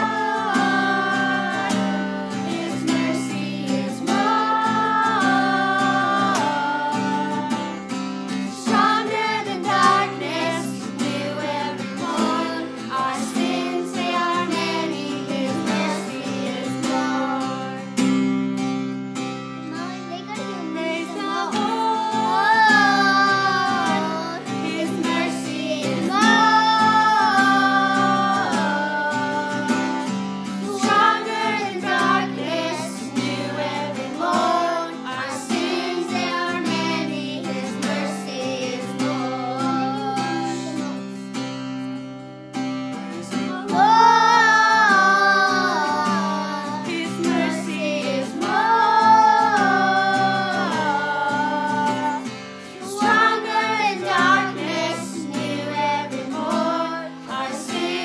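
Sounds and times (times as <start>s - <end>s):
woman and children singing: 0.0s - 18.2s, 19.7s - 41.4s, 42.9s - 58.0s
strummed acoustic guitar: 0.0s - 58.0s.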